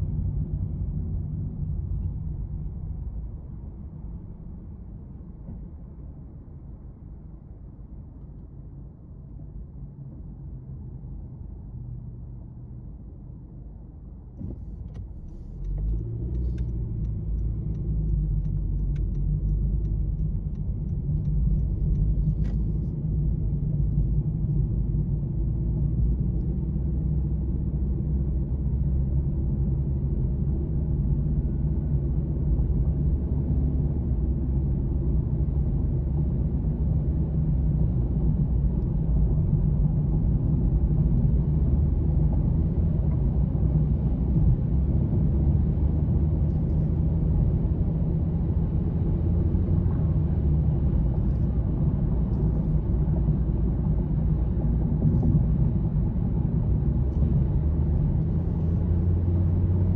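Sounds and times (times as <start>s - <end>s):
low engine rumble: 9.2s - 59.9s.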